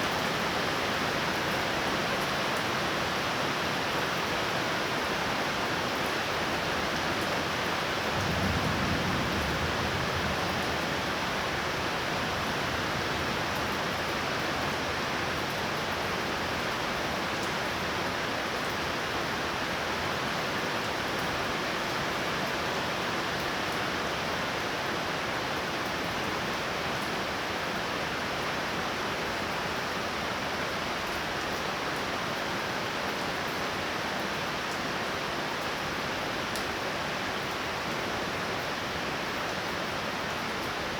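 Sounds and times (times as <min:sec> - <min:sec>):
torrential rain pouring: 0:00.0 - 0:40.9.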